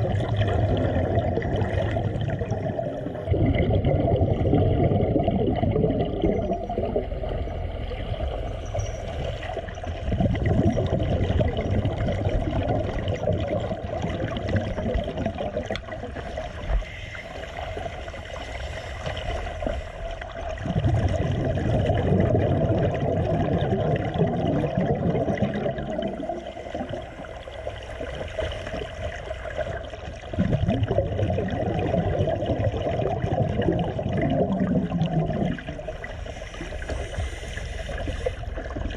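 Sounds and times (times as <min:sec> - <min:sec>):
muffled rushing bubbling water: 0:00.0 - 0:38.9.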